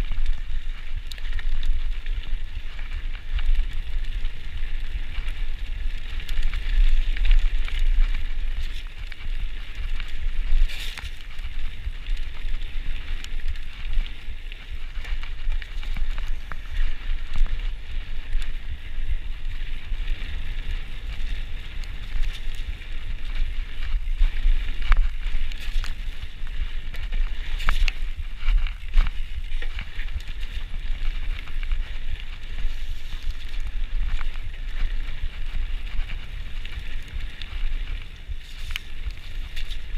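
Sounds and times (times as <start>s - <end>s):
bike tyre rumble and rattle: 0.0s - 39.9s.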